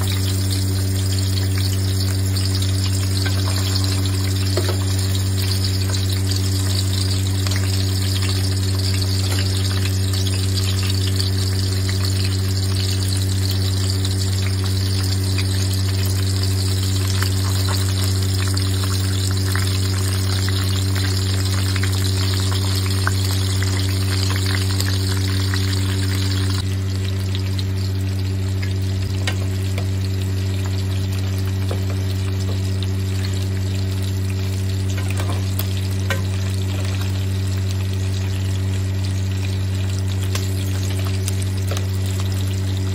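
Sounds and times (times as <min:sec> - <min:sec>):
chicken sizzling in oil: 0:00.0 - 0:42.9
loud low hum: 0:00.0 - 0:42.9.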